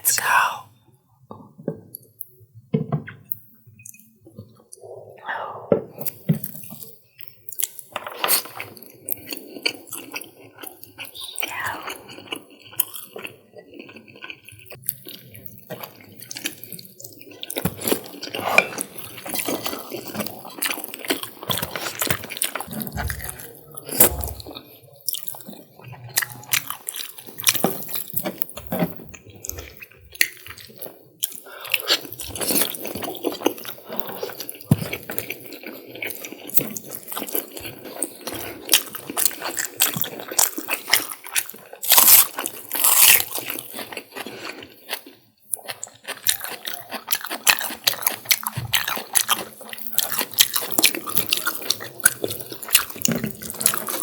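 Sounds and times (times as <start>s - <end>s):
wet chewing and smacking: 6.0s - 54.0s.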